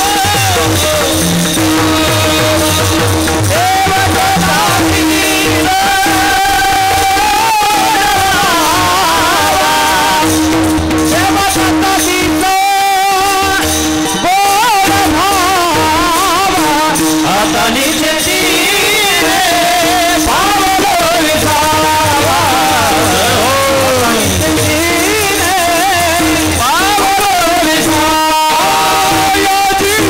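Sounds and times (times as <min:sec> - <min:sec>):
man singing into a microphone: 0:00.0 - 0:30.0.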